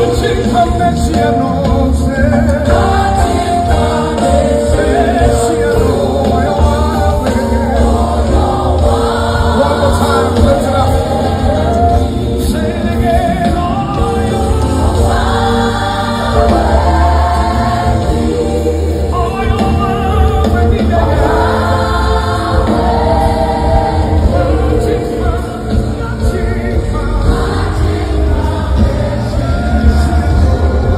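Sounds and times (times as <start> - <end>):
band with heavy bass: 0.0 - 30.9
choir singing gospel: 0.0 - 30.9.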